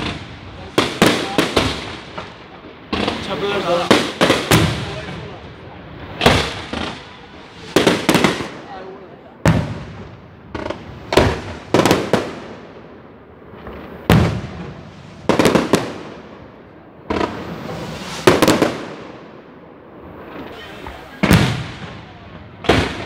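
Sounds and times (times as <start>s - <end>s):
fireworks bursting with echo: 0.0s - 23.0s.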